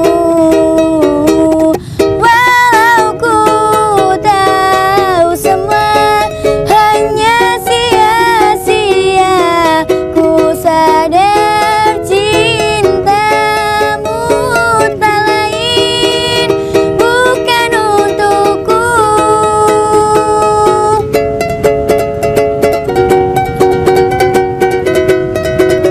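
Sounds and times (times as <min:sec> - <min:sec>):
person singing: 0:00.0 - 0:21.2
plucked string accompaniment: 0:00.0 - 0:25.9.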